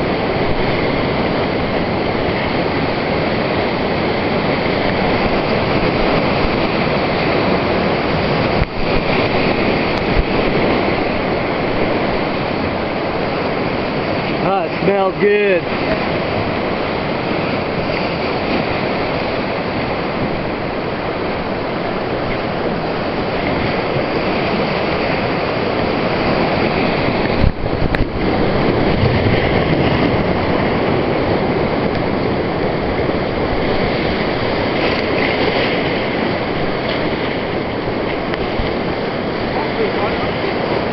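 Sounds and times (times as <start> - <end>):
whitewater rapids rushing: 0.0 - 40.9.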